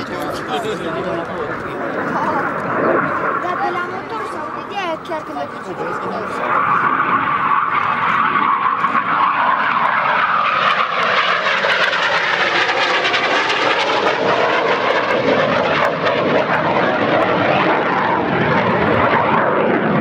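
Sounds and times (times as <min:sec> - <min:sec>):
jet engine rushing in flyby: 0:00.0 - 0:20.0.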